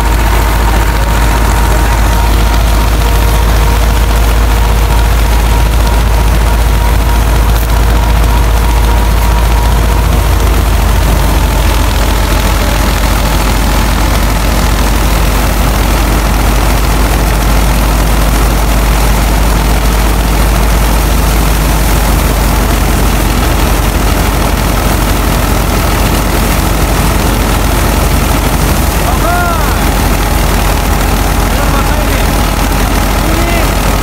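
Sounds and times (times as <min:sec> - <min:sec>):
thresher mechanical drone: 0:00.0 - 0:34.0
tractor engine hum: 0:00.0 - 0:34.0.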